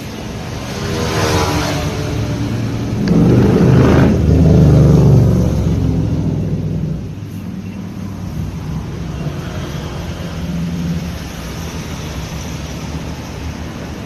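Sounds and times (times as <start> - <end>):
vehicle engine passing by: 0.3 - 13.2.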